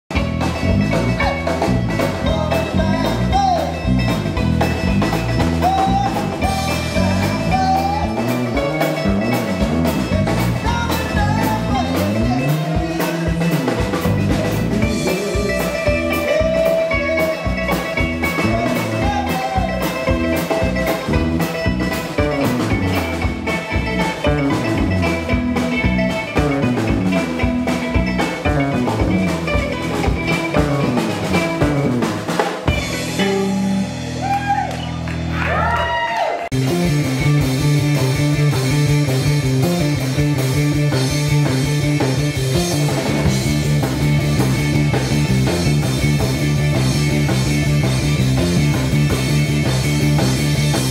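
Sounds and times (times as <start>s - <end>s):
electric bass: 0.0s - 50.9s
mandolin melody: 0.1s - 34.2s, 36.5s - 50.9s
drum kit beat: 0.1s - 50.9s.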